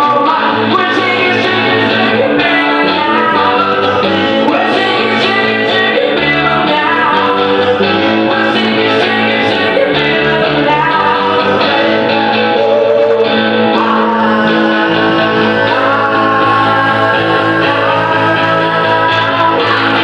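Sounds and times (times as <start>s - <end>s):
live rock band playing: 0.0s - 20.0s
man singing into microphone: 0.0s - 20.0s.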